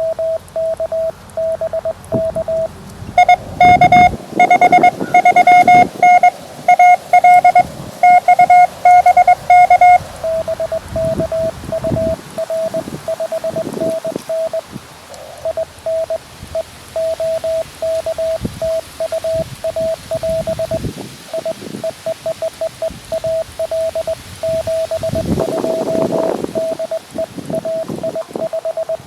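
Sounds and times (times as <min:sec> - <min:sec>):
morse code tone: 0:00.0 - 0:14.7, 0:15.4 - 0:29.0
wind buffeting microphone: 0:02.0 - 0:29.0.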